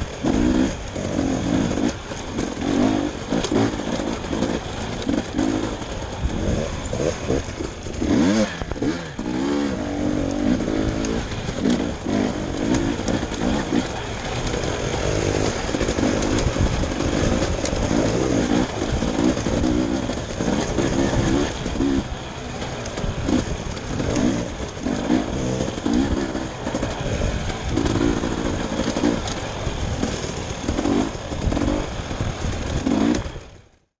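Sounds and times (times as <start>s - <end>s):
dirt bike engine revving: 0.0s - 33.6s.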